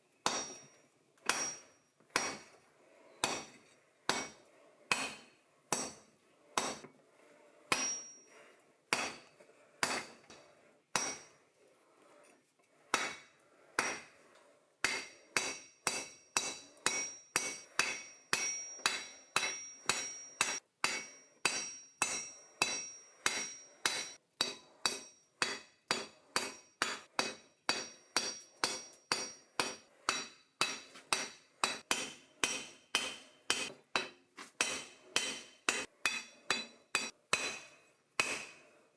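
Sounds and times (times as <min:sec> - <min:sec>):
hammer striking steel on anvil: 0:00.2 - 0:02.5, 0:03.2 - 0:06.9, 0:07.7 - 0:10.3, 0:10.9 - 0:11.3, 0:12.9 - 0:14.1, 0:14.8 - 0:38.7.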